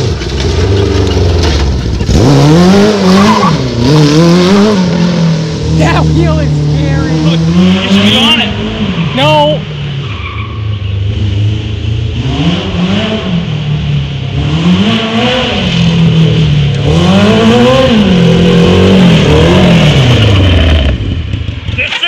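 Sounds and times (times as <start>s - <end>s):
motorcycle engine revving: 0.0s - 9.8s, 10.8s - 22.0s.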